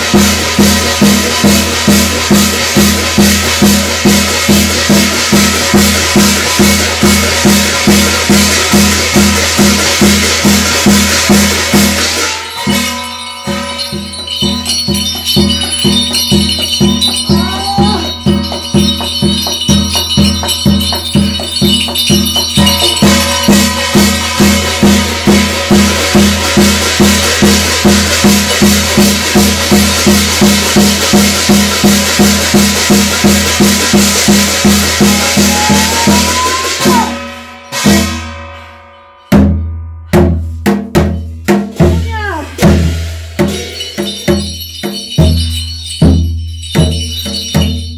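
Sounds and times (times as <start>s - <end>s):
drum beating quickly: 0.0s - 37.2s, 39.4s - 47.9s
metallic jingling and clashing: 0.2s - 47.9s.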